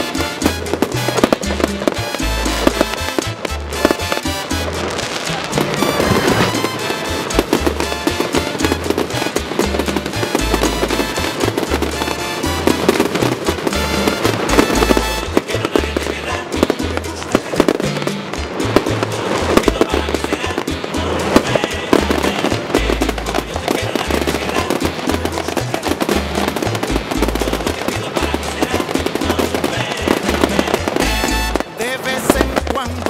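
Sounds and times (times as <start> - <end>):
fireworks banging and crackling: 0.0 - 33.0
music with pulsing bass: 0.0 - 33.0.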